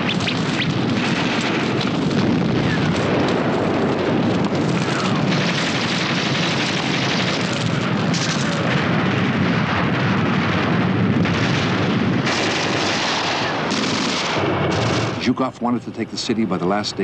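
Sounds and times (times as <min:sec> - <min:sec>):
gunfire: 0:00.0 - 0:15.3
explosions: 0:00.0 - 0:15.5.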